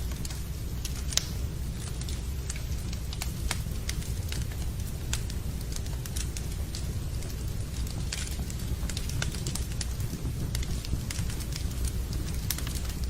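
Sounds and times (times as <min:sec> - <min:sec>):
soft hiss of rain: 0:00.0 - 0:13.0
wood fire crackling: 0:00.0 - 0:13.0.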